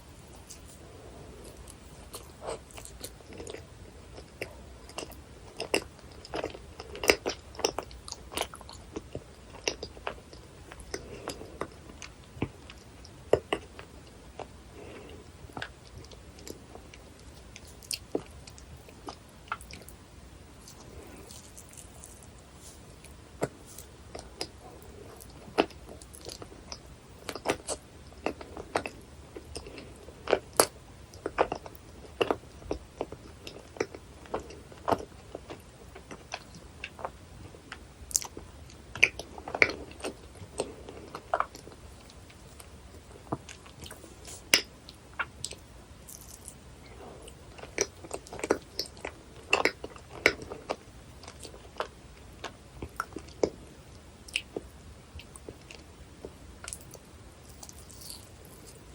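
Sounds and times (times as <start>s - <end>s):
close chewing sticky food: 0.0s - 58.9s.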